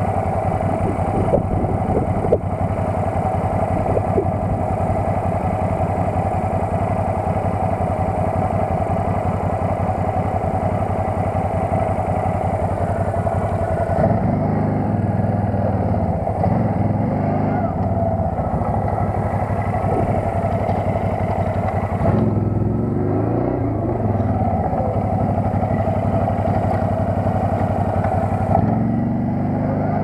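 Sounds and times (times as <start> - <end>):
quad bike engine running: 0.0 - 30.0.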